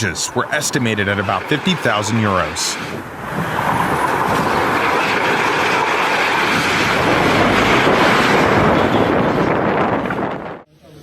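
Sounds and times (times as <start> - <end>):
strong wind rushing: 0.0 - 10.7
wind gusts buffeting microphone: 0.0 - 10.7.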